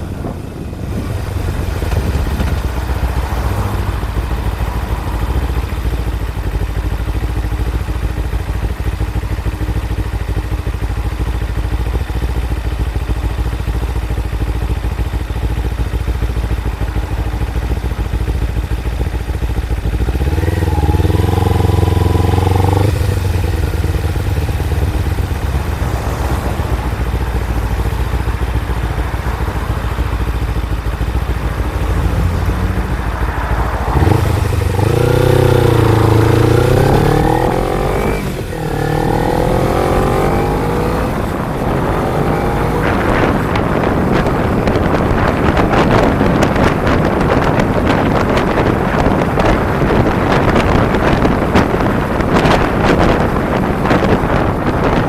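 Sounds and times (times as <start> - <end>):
wind buffeting microphone: 0.0 - 6.6, 12.7 - 55.0
motorcycle engine running: 0.0 - 55.0.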